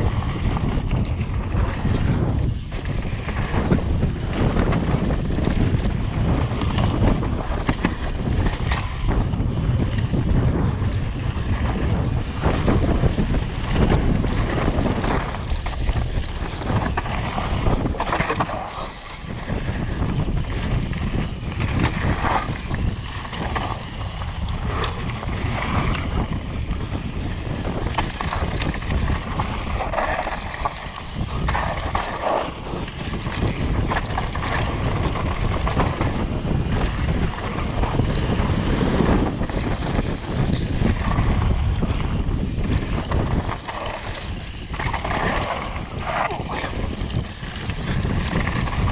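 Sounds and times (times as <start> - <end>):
mountain bike rattling over trail: 0.0 - 48.9
wind buffeting microphone: 0.0 - 48.9.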